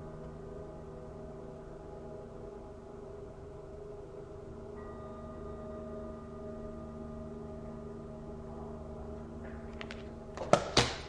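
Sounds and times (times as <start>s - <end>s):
ambient music with ringing tones: 0.0s - 11.0s.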